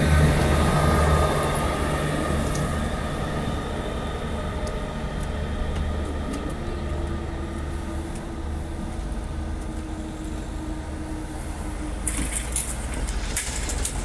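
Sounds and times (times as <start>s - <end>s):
train hum: 0.0s - 14.0s.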